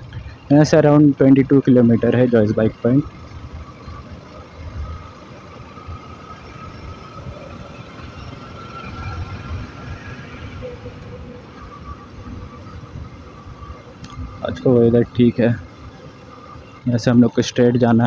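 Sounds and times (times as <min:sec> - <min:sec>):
light traffic: 0:00.0 - 0:18.0
motorcycle engine running: 0:00.0 - 0:18.0.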